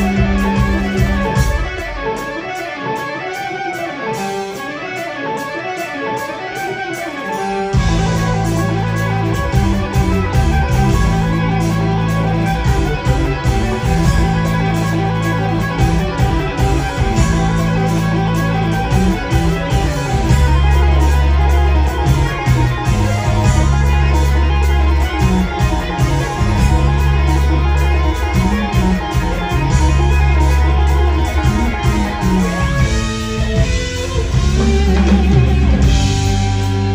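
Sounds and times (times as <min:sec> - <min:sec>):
electric guitar: 0:00.0 - 0:36.9.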